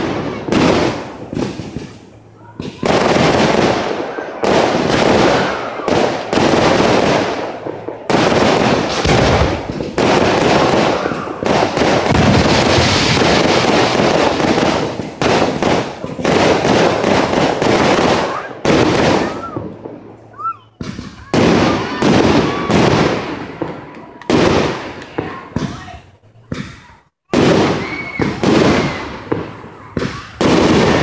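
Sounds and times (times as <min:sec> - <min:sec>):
fireworks bangs: 0:00.0 - 0:31.0
fireworks crackling: 0:00.0 - 0:31.0.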